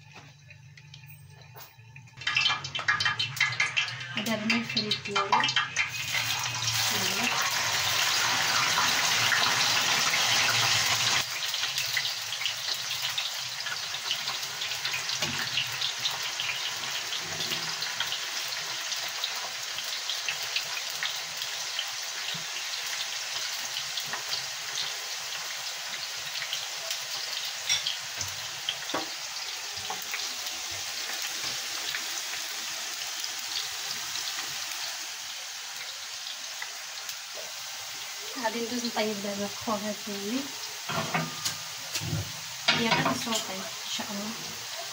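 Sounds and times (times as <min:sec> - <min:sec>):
potatoes sizzling in hot oil: 0:02.1 - 0:44.9.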